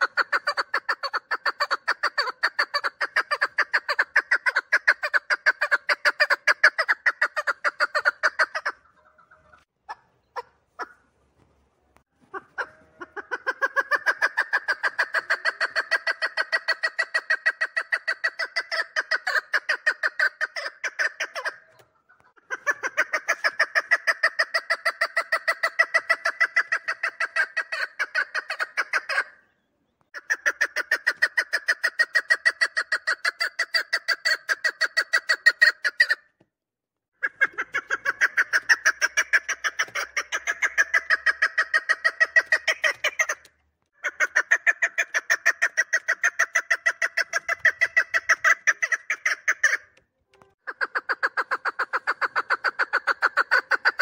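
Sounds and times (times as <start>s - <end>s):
partridge calling: 0.0s - 11.1s, 12.2s - 36.3s, 37.2s - 50.0s, 50.6s - 54.0s.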